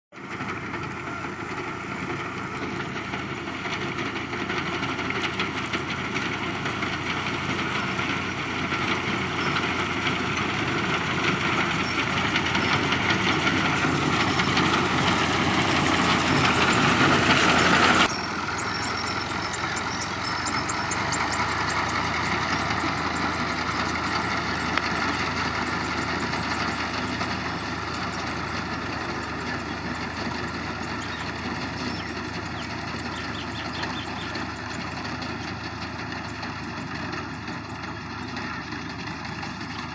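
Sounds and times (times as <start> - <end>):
combine harvester running: 0.1 - 39.9.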